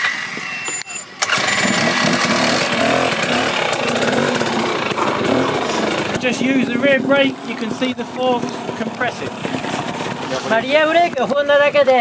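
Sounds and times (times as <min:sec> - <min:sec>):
dirt bike engine running: 0:01.3 - 0:12.0.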